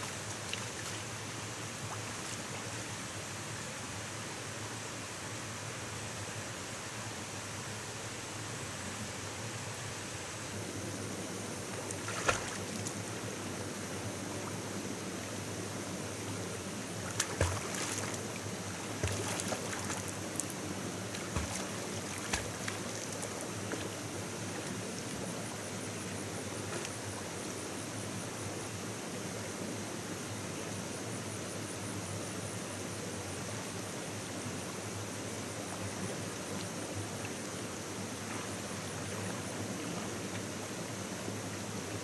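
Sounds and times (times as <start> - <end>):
stream water running: 0.0 - 42.0.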